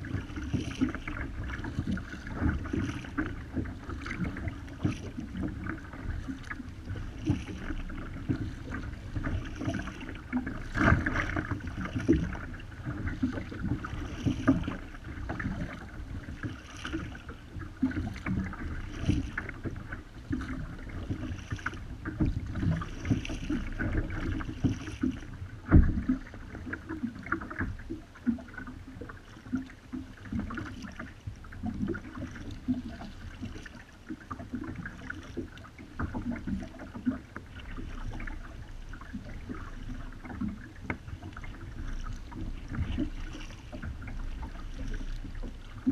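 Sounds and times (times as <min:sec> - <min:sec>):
paddle splashing in water: 0:00.0 - 0:45.9
water slapping hull: 0:00.0 - 0:45.9
wind: 0:00.0 - 0:45.9.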